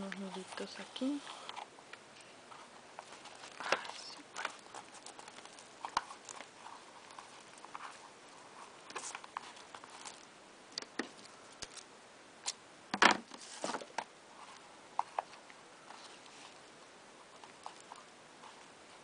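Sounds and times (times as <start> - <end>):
hands handling cardboard journal: 2.5 - 11.9, 13.0 - 19.0.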